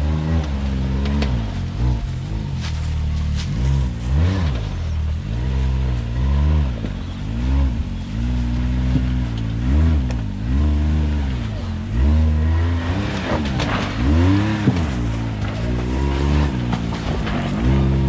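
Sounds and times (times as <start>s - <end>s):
utility vehicle engine revving: 0.0s - 18.0s.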